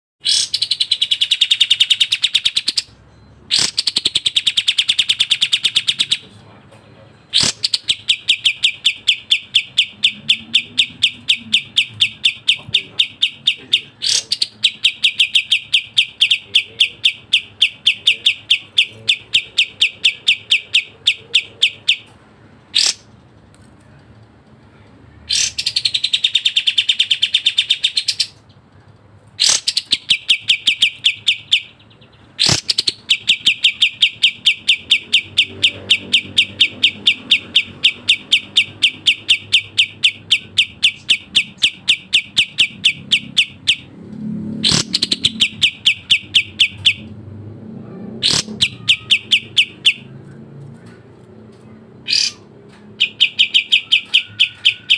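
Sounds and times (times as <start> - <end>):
bulbul singing: 0.2 - 23.2, 25.2 - 28.6, 29.3 - 47.6, 48.2 - 54.9.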